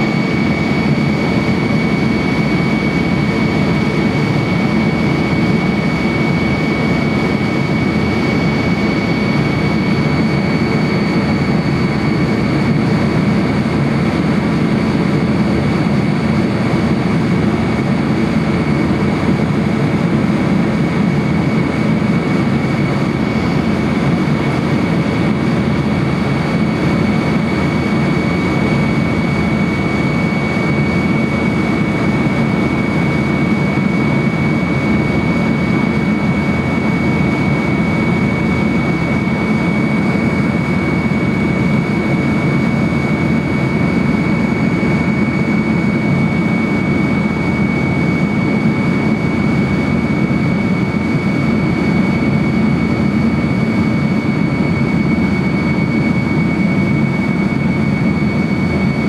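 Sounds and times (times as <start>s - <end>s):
high engine whine: 0.0s - 59.0s
jet engine cabin rumble: 0.0s - 59.0s.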